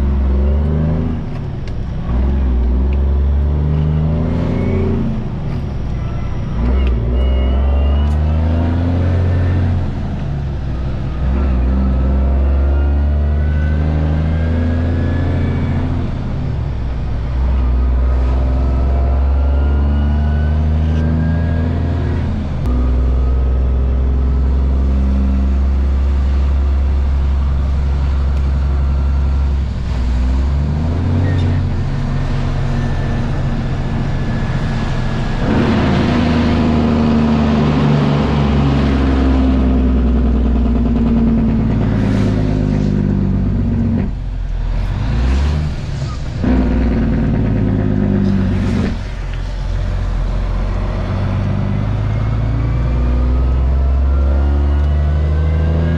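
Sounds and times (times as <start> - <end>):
truck diesel engine under load: 0.0 - 55.9.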